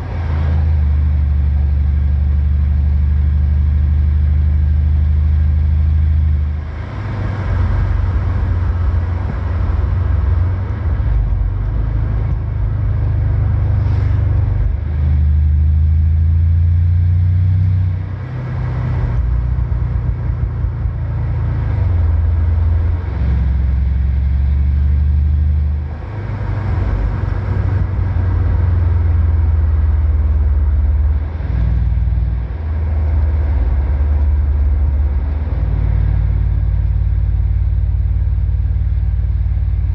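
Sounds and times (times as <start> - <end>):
car exhaust drone: 0.0 - 39.9.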